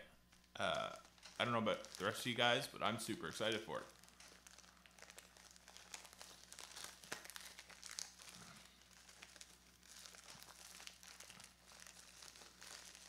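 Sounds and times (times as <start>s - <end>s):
low steady hum: 0.0s - 13.0s
packaging crinkling and tearing: 0.3s - 13.0s.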